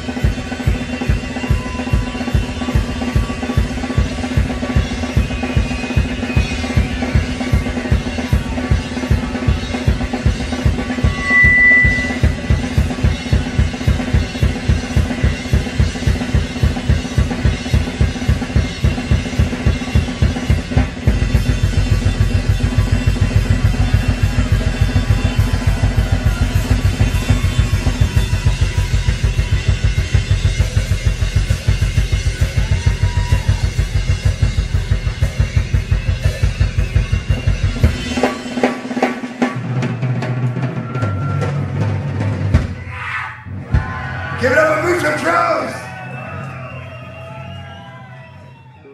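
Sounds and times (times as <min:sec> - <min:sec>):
fast bass drum strokes: 0:00.0 - 0:42.8
drum kit solo: 0:00.0 - 0:46.3.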